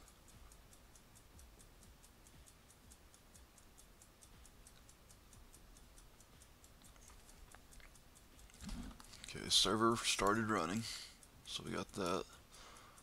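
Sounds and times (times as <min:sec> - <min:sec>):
faint high-pitched ticking: 0:00.0 - 0:13.0
low room hum: 0:00.0 - 0:13.0.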